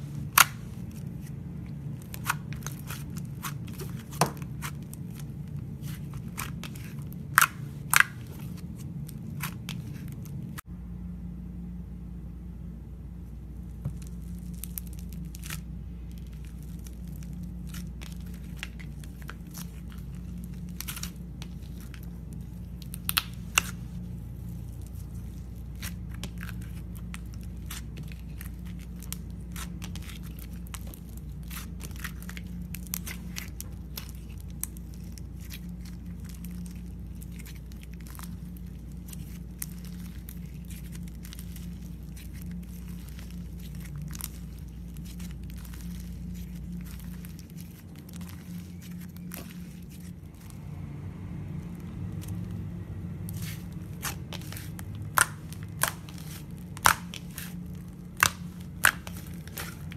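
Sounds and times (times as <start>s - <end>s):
slime crackling and popping: 0.0s - 10.6s, 13.8s - 50.8s, 51.5s - 59.9s
steady low hum: 0.0s - 59.9s.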